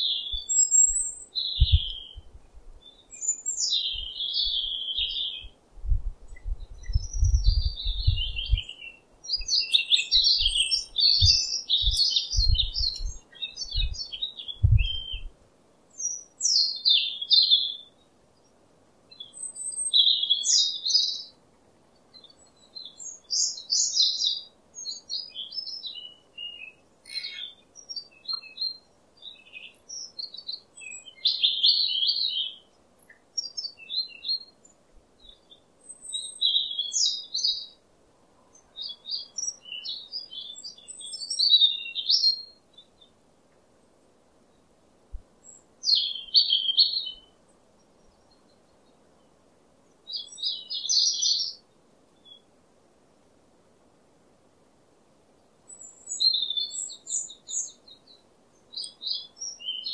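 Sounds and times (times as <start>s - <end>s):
small birds chirping: 0.0s - 52.6s, 55.3s - 59.9s.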